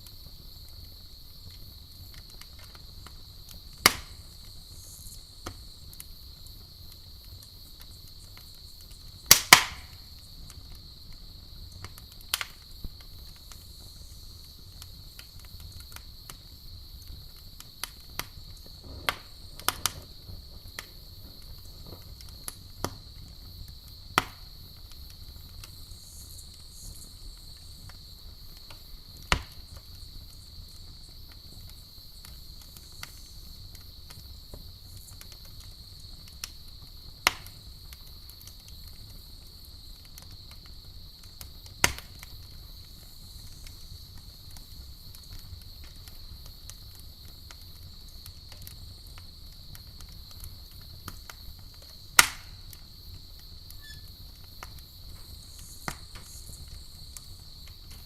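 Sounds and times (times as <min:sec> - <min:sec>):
campfire crackling and popping: 0:00.0 - 0:58.0
crickets chirring: 0:00.0 - 0:58.0.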